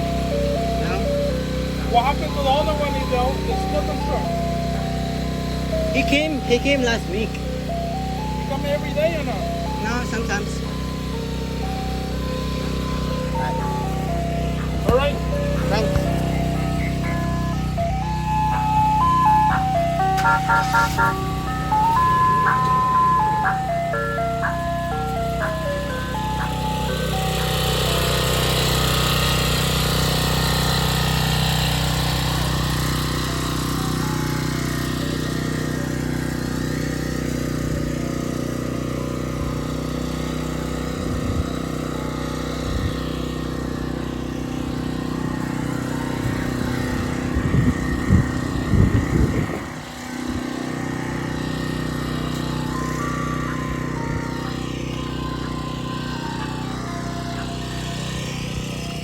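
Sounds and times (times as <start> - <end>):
ice cream truck jingle: 0.0 - 59.0
truck engine running: 0.0 - 59.0.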